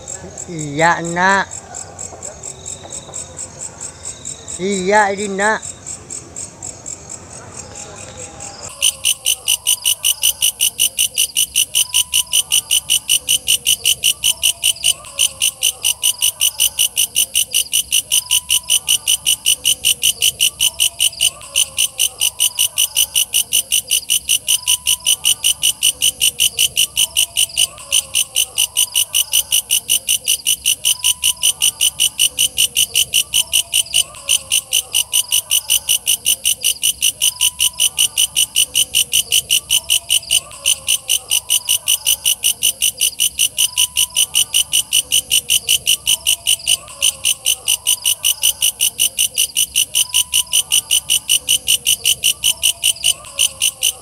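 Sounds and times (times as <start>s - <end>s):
katydid pulsing call: 8.7s - 54.0s.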